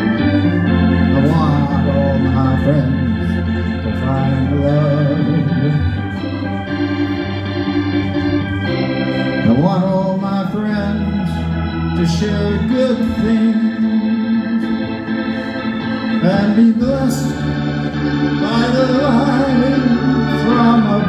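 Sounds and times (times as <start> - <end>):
keyboard organ chords: 0.0 - 21.0.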